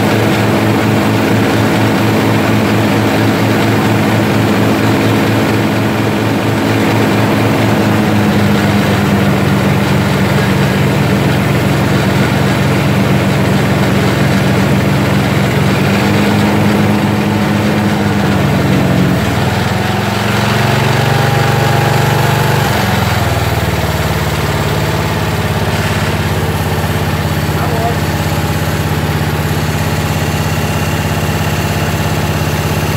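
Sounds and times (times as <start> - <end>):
mower engine running: 0.0 - 32.9.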